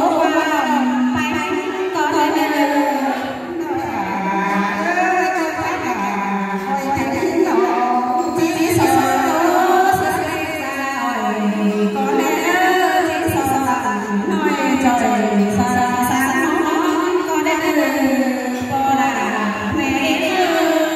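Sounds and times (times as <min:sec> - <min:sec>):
women singing into microphones: 0:00.0 - 0:20.9.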